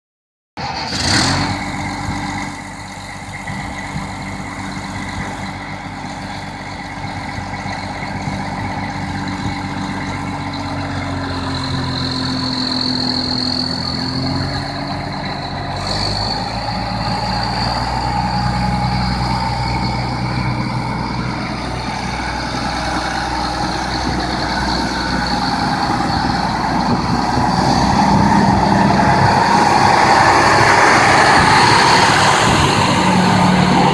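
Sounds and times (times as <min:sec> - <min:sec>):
tractor diesel engine running: 0:00.6 - 0:33.9
high whine: 0:01.4 - 0:33.9.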